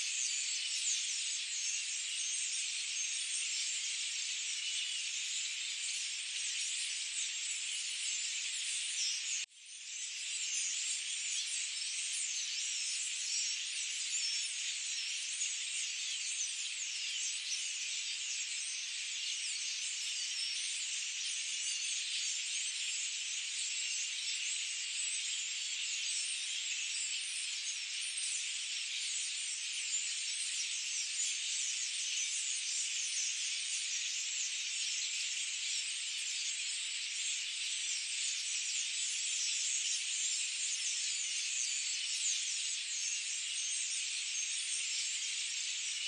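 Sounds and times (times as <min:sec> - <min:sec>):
many small birds chirping: 0:00.0 - 0:46.0.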